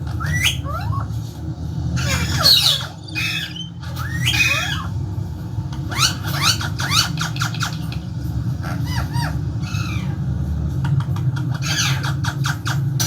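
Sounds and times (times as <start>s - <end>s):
parrot squawking: 0.0s - 10.3s, 11.3s - 13.0s
steady low rumble: 0.0s - 13.0s.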